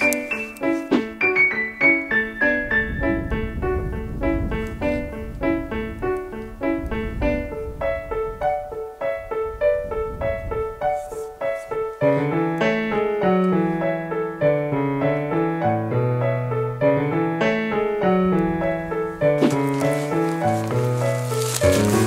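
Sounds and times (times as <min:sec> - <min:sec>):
keyboard background music: 0:00.0 - 0:10.8, 0:11.9 - 0:22.0.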